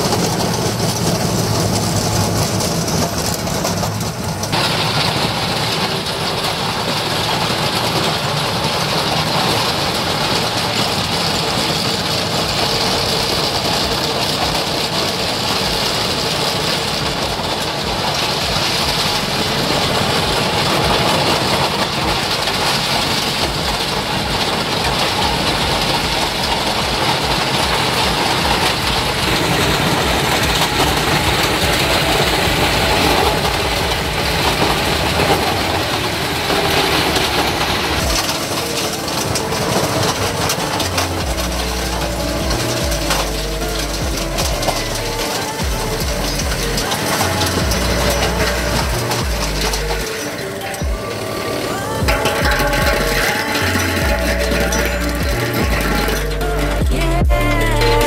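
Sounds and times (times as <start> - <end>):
mulcher rotor grinding stones: 0.0 - 58.0
tractor diesel engine under load: 0.0 - 58.0.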